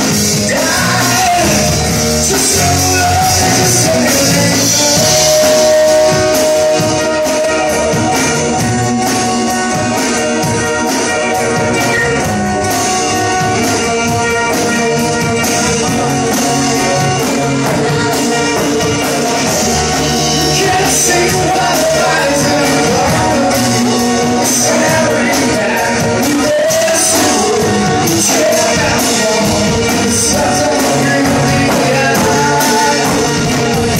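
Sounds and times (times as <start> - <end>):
drum kit: 0.0 - 33.9
person singing: 0.0 - 33.9.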